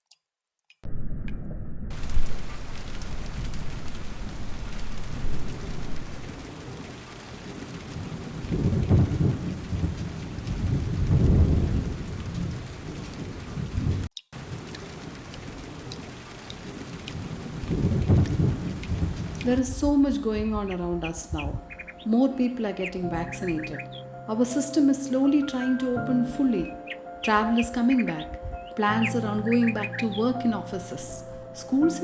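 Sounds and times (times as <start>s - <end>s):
low thunder rumbling: 0.9s - 15.6s, 16.6s - 32.0s
rain pouring: 1.9s - 32.0s.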